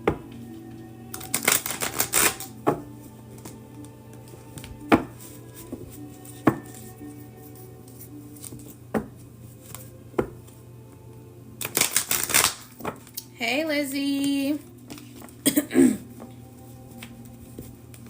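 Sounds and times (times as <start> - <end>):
faint soft background music: 0.0 - 18.0.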